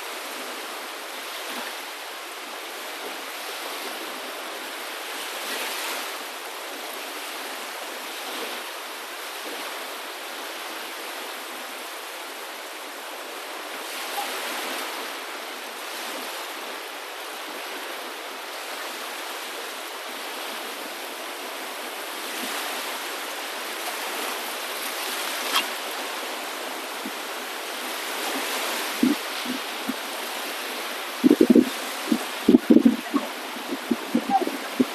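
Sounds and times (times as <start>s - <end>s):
rushing water: 0.0s - 34.9s.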